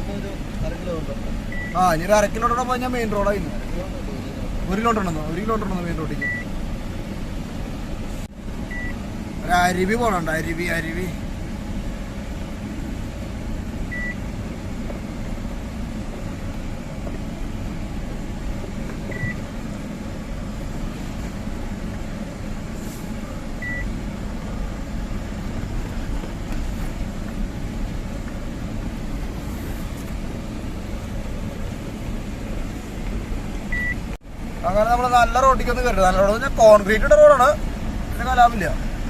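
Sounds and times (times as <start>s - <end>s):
truck diesel engine rumble: 0.0s - 39.0s.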